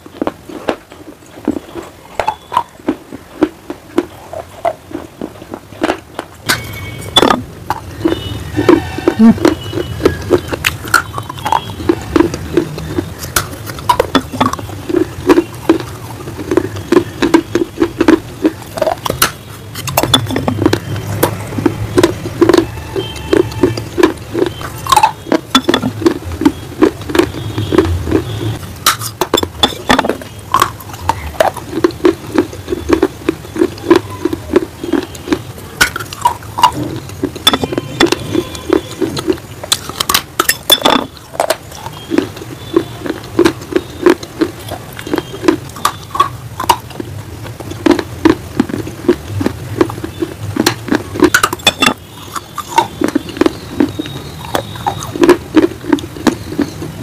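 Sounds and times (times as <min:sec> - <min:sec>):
person crunching and chewing: 0:00.0 - 0:57.0.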